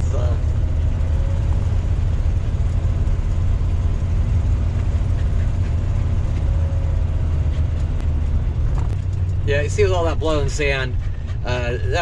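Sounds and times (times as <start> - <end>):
motorhome engine rumbling: 0.0 - 12.0.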